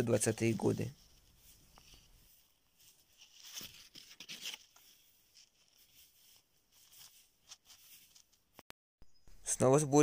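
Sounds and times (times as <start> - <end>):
dry paper rustling and crackling: 0.0 - 8.6.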